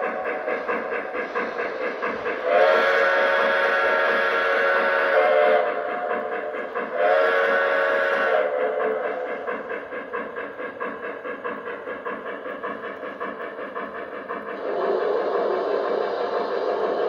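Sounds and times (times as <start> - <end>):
model steam locomotive chuffing: 0.0 - 17.0
model train running on track: 0.0 - 17.0
steam hiss: 0.0 - 17.0.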